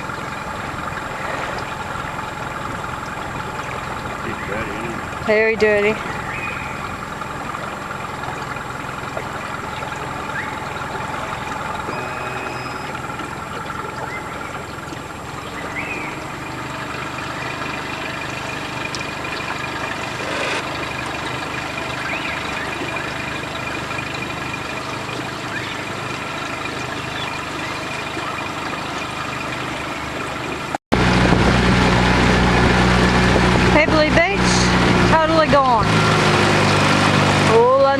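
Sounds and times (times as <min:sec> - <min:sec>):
outboard motor running: 0:00.0 - 0:37.9.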